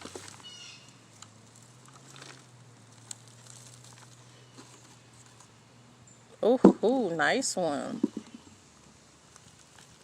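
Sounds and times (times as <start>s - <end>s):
rustling and crumbling of soil: 0.0s - 7.3s, 7.9s - 10.0s.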